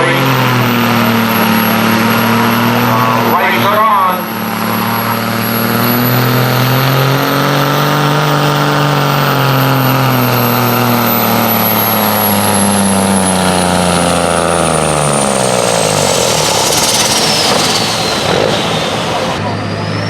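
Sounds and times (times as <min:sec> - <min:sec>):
truck engine at full throttle: 0:00.0 - 0:20.0.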